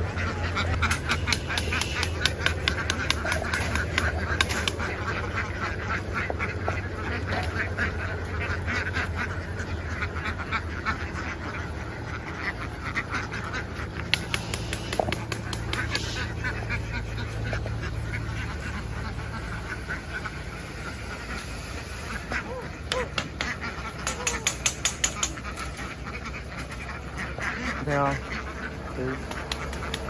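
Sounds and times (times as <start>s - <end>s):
ducks quacking: 0.0s - 30.0s
steady low hum: 0.0s - 30.0s.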